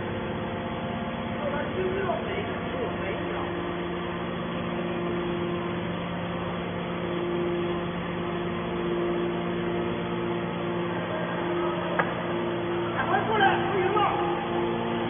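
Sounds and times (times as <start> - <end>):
electric motor and pump humming: 0.0 - 15.0.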